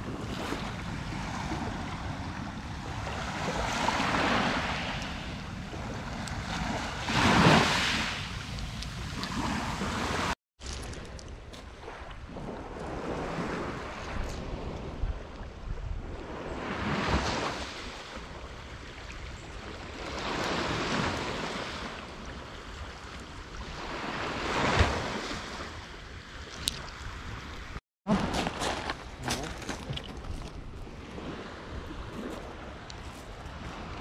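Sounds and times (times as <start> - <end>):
sea waves breaking on beach: 0.0 - 10.4, 11.8 - 15.1, 16.1 - 29.9.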